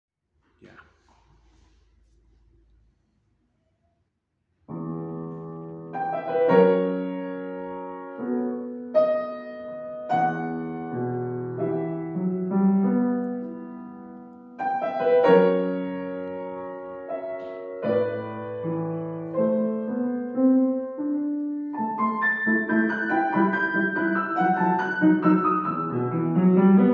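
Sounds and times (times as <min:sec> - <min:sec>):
solo grand piano: 0:04.6 - 0:26.9.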